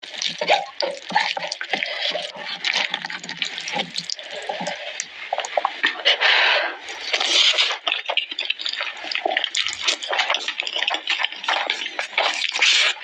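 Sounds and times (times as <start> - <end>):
wet smacking and chewing: 0.0 - 6.2, 6.9 - 13.0
noodle slurp: 0.0 - 13.0.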